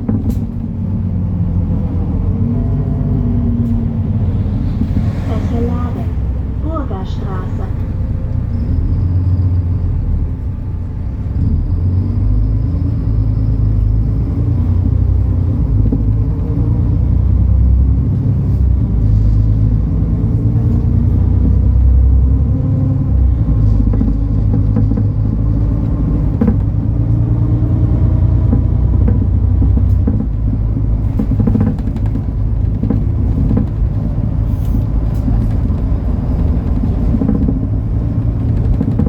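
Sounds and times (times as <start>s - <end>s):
bus diesel engine rumbling: 0.0s - 39.0s
faint drivetrain whine: 0.0s - 39.0s.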